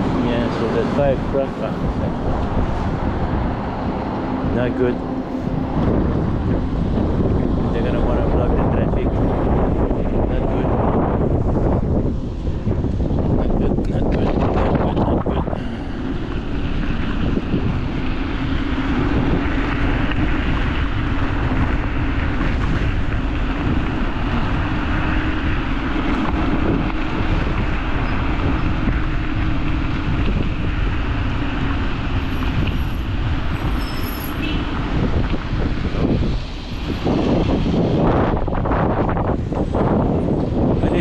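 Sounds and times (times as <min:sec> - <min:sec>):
low hum: 0:00.0 - 0:40.0
heavy road traffic rumble: 0:00.0 - 0:41.0
wind buffeting microphone: 0:00.0 - 0:41.0.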